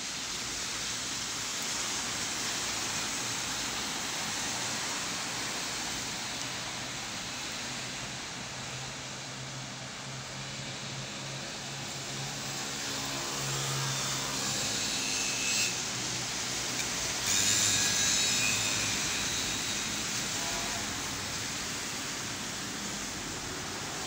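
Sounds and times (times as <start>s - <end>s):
rain on wet street: 0.0s - 24.0s
traffic through water: 0.0s - 24.0s.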